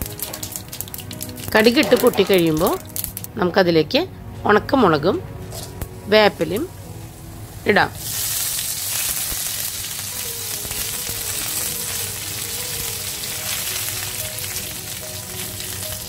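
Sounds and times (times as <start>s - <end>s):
leaves sizzling in hot oil: 0.0s - 3.4s, 5.5s - 16.0s.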